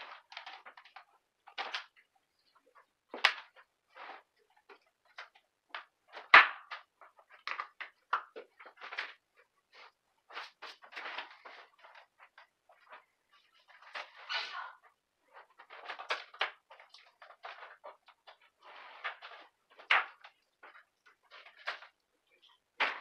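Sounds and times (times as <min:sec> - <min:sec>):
cables rustling and clattering: 0:00.0 - 0:23.0.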